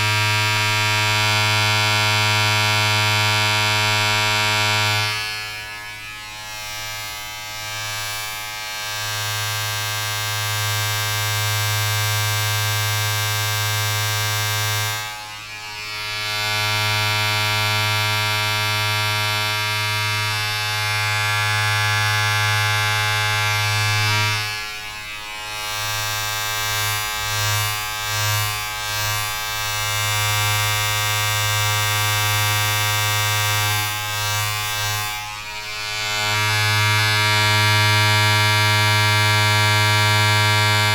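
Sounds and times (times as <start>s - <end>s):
electric buzz: 0.0s - 40.9s.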